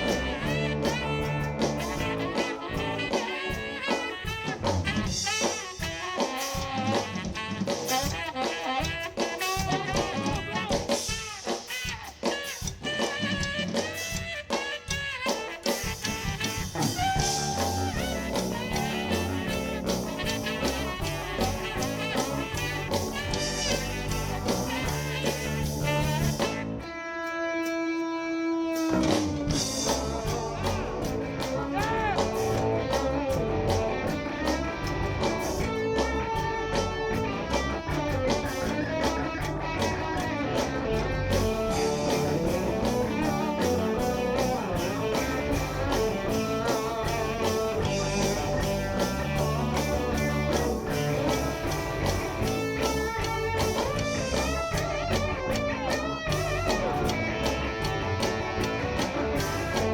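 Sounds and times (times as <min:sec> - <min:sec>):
live band playing instrumental: 0:00.0 - 0:59.9.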